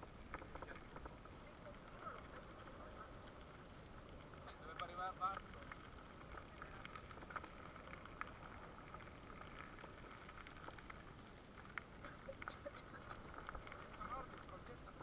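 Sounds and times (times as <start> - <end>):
bicycle tyres on gravel: 0.0 - 15.0.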